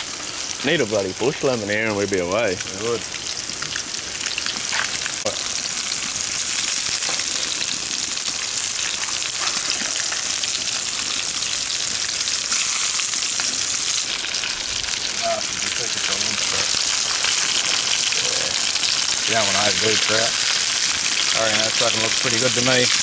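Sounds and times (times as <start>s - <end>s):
fish frying in hot oil: 0.0s - 23.0s.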